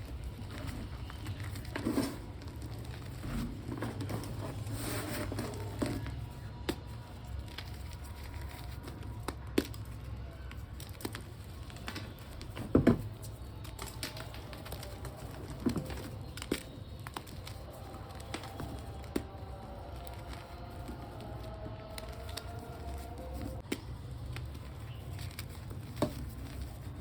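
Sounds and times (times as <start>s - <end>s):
chalk crunching and crumbling: 0.0s - 27.0s.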